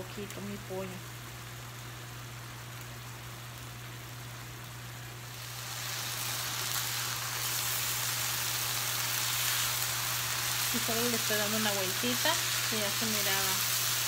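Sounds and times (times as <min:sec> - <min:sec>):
chicken sizzling in a skillet: 0:00.0 - 0:14.0.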